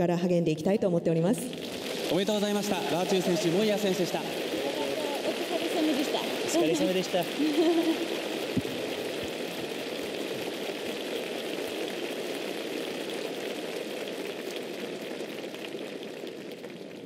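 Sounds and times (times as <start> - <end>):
distant crowd applause: 1.7 - 17.0.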